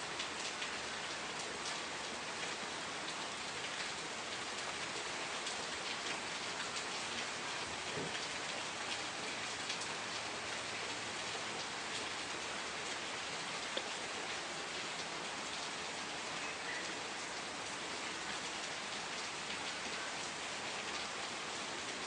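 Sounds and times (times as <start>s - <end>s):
rain falling on a surface: 0.0s - 22.0s.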